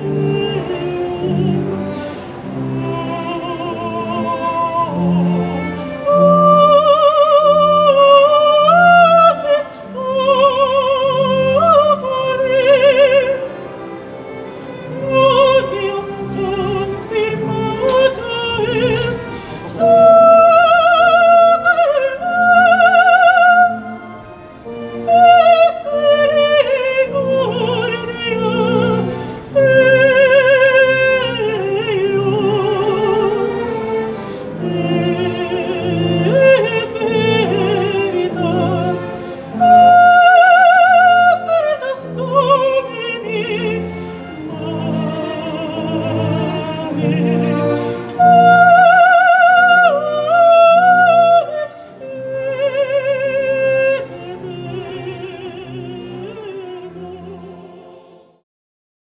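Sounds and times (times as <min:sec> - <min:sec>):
operatic voice singing: 0:00.0 - 0:13.8, 0:14.9 - 0:24.3, 0:25.0 - 0:58.4.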